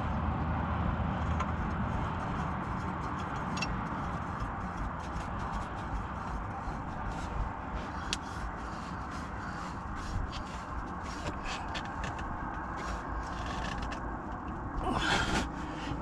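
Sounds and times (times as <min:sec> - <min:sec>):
steady background hum: 0:00.0 - 0:16.0
filter scraping and clicking: 0:01.2 - 0:14.8.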